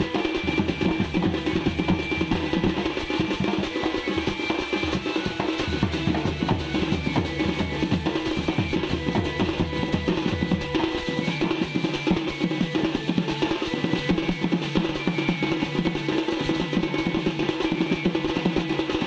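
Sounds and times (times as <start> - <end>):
held melody line: 0.0 - 19.0.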